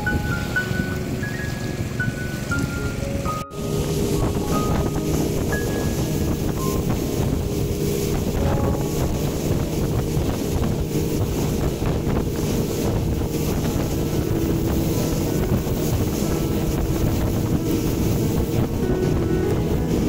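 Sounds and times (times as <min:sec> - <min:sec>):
boat engine running: 0:00.0 - 0:20.0
water rushing: 0:00.0 - 0:20.0
wind buffeting microphone: 0:00.0 - 0:20.0.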